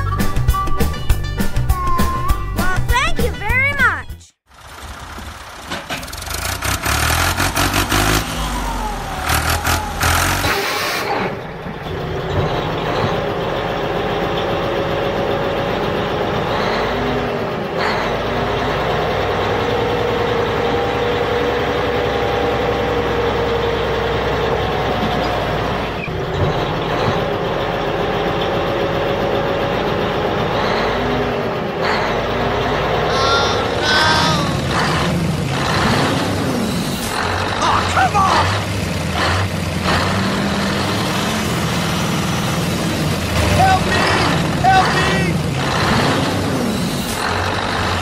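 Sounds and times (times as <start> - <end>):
truck engine revving: 4.5 - 48.0.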